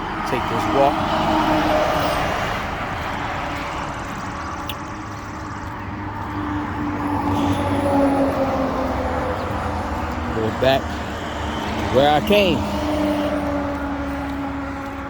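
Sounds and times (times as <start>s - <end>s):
car passing: 0.0s - 15.0s.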